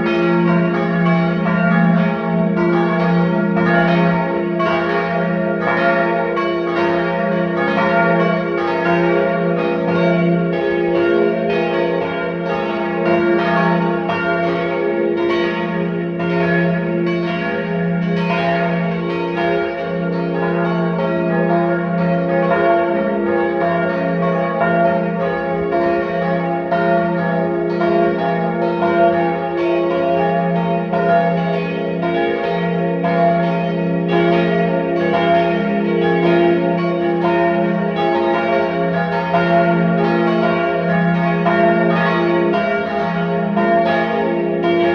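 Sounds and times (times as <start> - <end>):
church bells pealing: 0.0 - 44.9.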